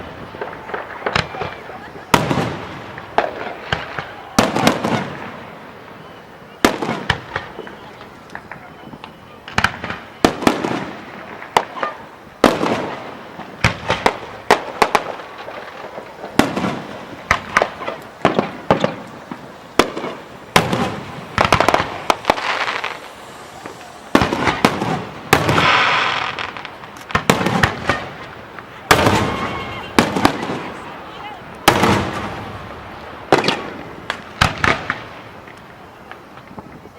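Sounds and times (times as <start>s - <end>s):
fireworks bursting and banging: 0.0s - 36.9s.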